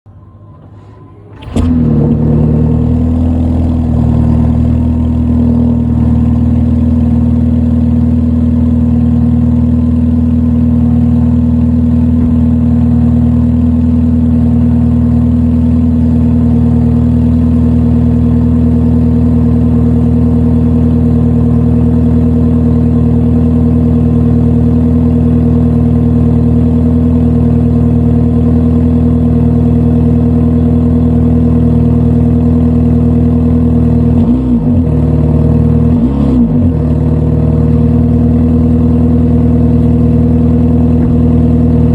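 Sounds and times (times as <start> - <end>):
car engine idling: 0.1 - 41.9
car engine starting: 0.1 - 41.9.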